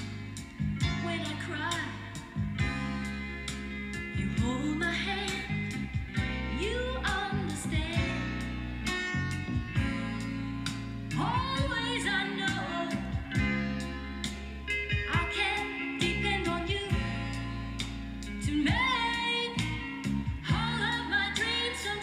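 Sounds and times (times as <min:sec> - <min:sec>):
song from a vinyl record: 0:00.0 - 0:22.0.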